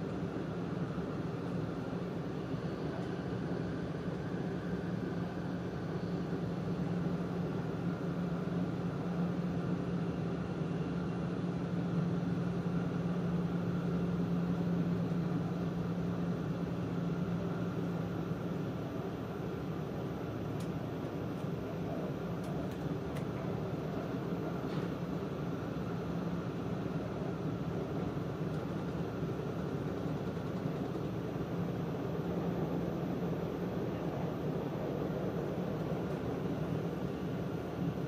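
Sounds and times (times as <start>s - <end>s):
train cabin running noise: 0.0s - 38.0s.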